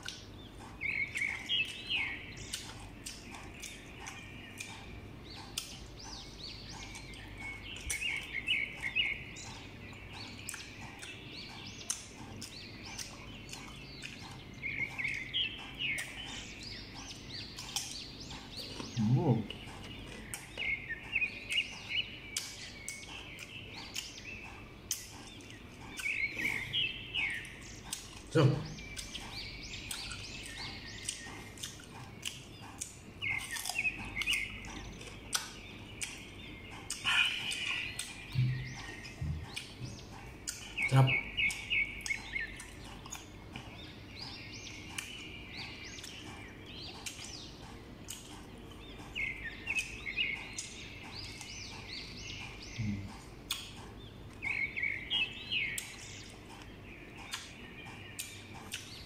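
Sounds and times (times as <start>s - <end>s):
chewing crisp mango: 0.0s - 59.0s
small bird chirping: 0.0s - 59.0s.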